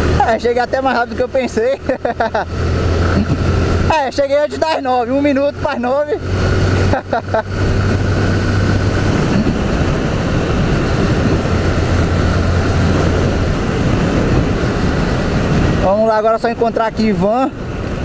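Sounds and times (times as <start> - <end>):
motorcycle engine drone: 0.0 - 18.0
wind rushing over microphone: 0.0 - 18.0.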